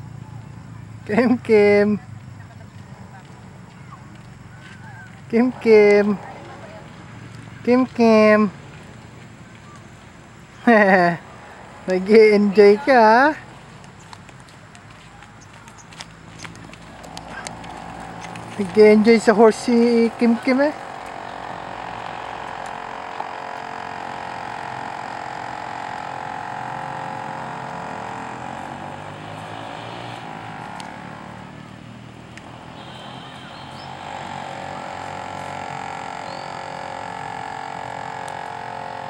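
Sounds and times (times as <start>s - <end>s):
steady engine drone: 4.3s - 14.0s, 16.3s - 39.0s.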